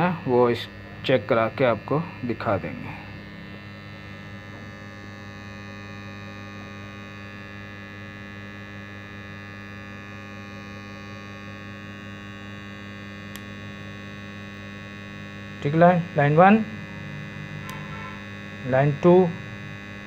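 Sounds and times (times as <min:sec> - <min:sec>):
contactor electrical buzz: 0:00.0 - 0:20.0.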